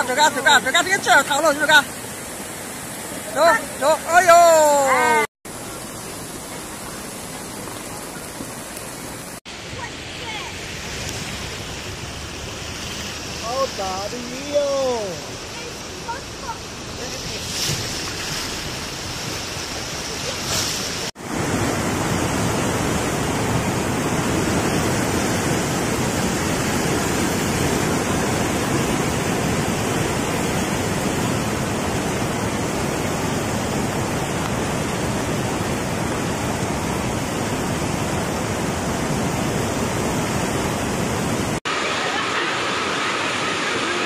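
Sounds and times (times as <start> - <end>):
water rushing: 0.0 - 44.0.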